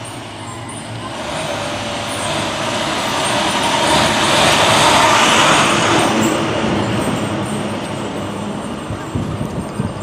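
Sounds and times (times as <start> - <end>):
heavy truck driving past: 0.0 - 10.0.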